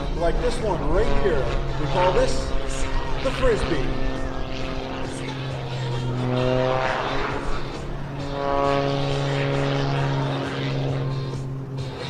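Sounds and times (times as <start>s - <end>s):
plane engine and propeller droning: 0.0s - 12.0s.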